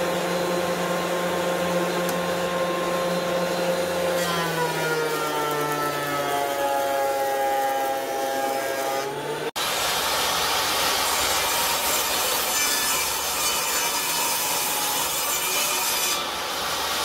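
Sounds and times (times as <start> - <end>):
table saw cutting wood: 0.0 - 17.0
thickness planer humming: 0.0 - 17.0.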